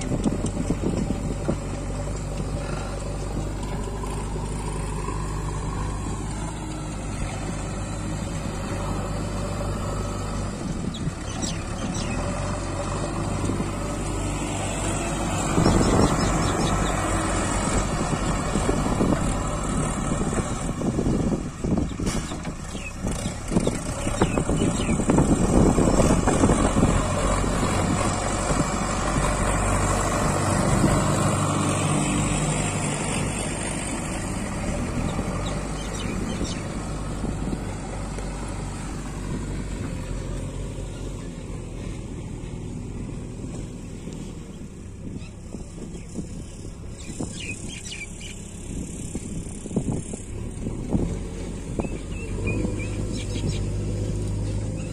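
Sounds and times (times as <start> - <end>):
loader bucket pushing soil: 0.0 - 47.6, 48.4 - 54.9
diesel engine running: 0.0 - 54.9.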